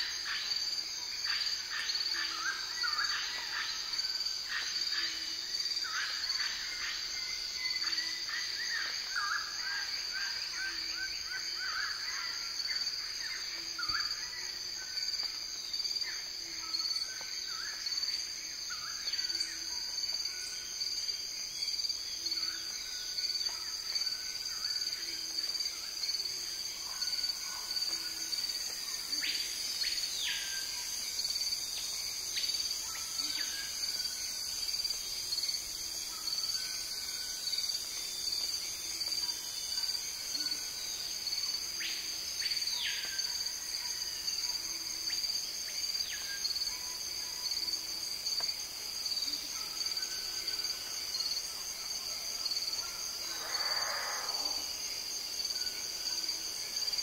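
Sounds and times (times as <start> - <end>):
insect chorus trilling: 0.0 - 57.0.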